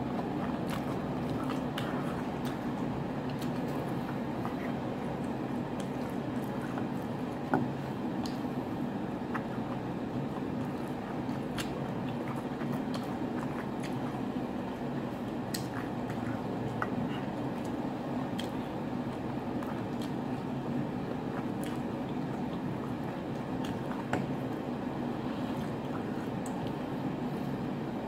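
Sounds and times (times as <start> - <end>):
chewing and wet mouth sounds: 0.0 - 28.0
steady low hum: 0.0 - 28.0.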